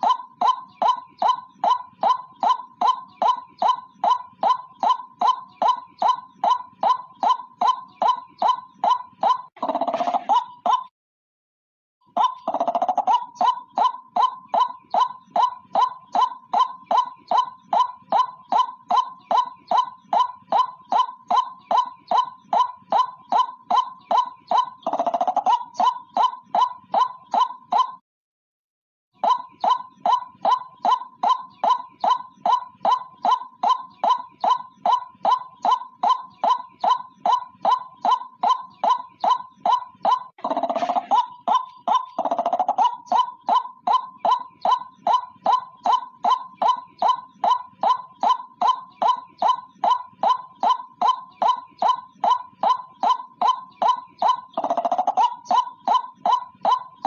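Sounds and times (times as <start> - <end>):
bird ringing call notes: 0.0 - 10.9, 12.1 - 28.0, 29.2 - 57.0.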